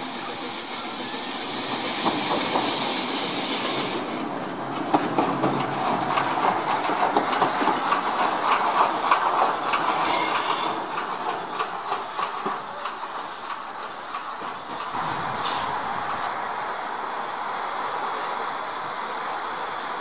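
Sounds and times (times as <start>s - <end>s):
steam engine chuffing: 0.0s - 16.2s
steam hiss: 0.0s - 20.0s.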